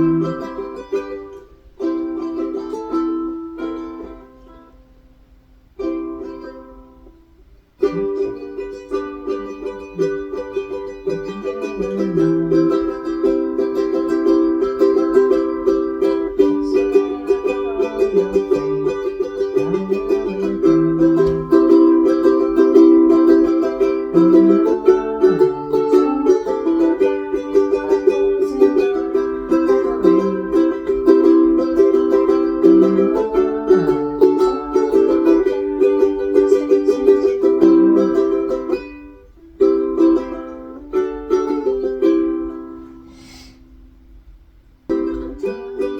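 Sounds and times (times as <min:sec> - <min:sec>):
ukulele strumming chords: 0:00.0 - 0:45.9.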